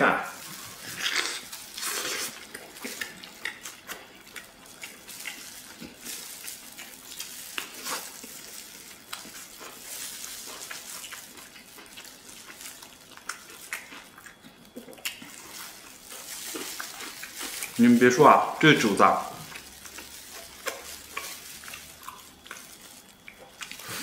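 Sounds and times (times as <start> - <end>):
wet chewing and lip smacking: 0.5 - 17.8, 19.3 - 24.0.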